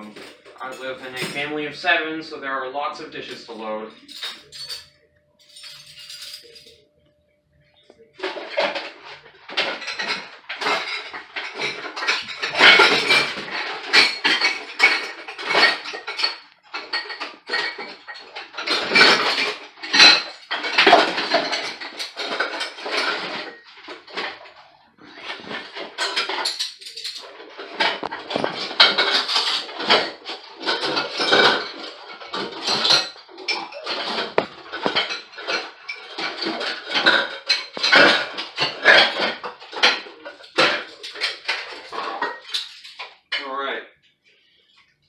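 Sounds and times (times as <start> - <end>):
metal cutlery clattering: 0.0 - 1.9, 3.0 - 6.8, 8.2 - 43.5.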